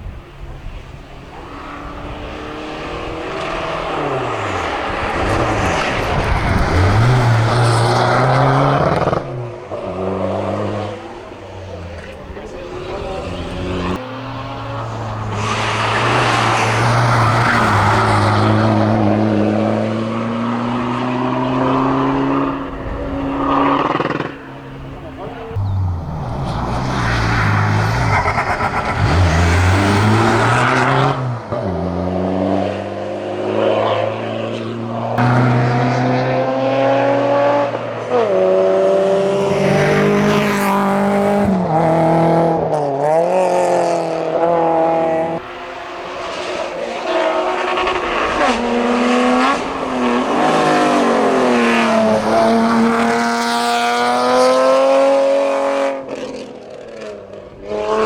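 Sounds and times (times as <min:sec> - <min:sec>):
racing car engine revving: 0:01.4 - 0:58.0.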